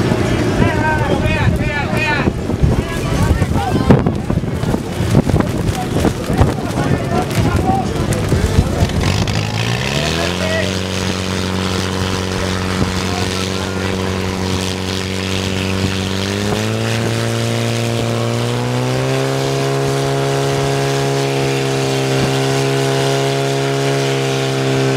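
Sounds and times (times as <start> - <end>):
fire pump engine running hard: 0.0 - 24.9.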